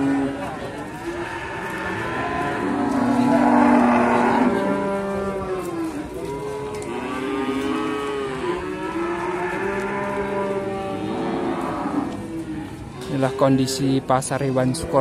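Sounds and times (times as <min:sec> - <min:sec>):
cattle mooing: 0:00.0 - 0:12.8.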